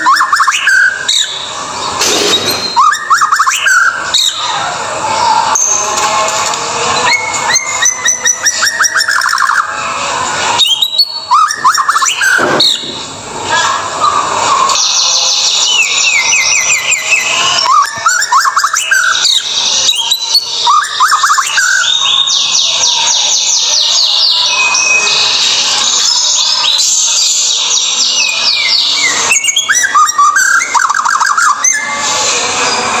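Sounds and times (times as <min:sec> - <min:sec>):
songbird singing: 0:00.0 - 0:04.6, 0:07.0 - 0:09.8, 0:10.6 - 0:13.0, 0:14.0 - 0:31.9.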